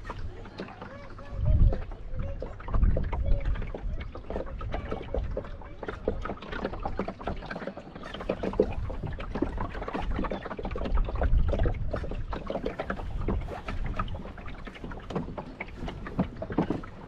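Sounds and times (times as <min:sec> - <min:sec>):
wind buffeting microphone: 0:00.0 - 0:07.5, 0:08.1 - 0:17.0
water slapping against hull: 0:00.0 - 0:17.0.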